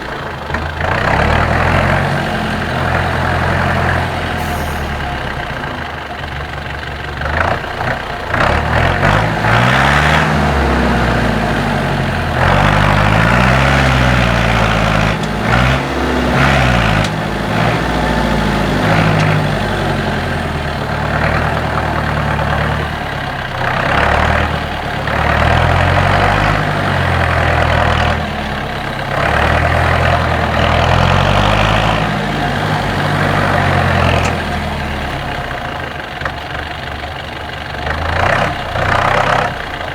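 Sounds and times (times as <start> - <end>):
truck diesel engine revving: 0.0 - 39.9.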